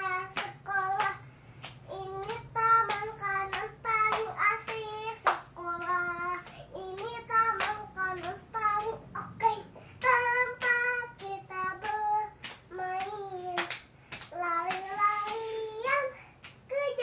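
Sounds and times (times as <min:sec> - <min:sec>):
girl singing unaccompanied: 0:00.0 - 0:17.0.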